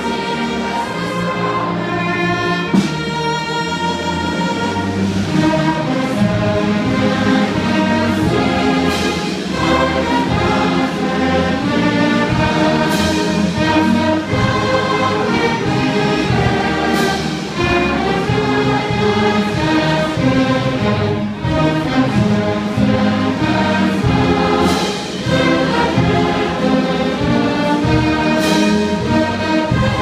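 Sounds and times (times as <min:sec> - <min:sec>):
choir singing: 0:00.0 - 0:30.0
strings playing: 0:00.0 - 0:30.0.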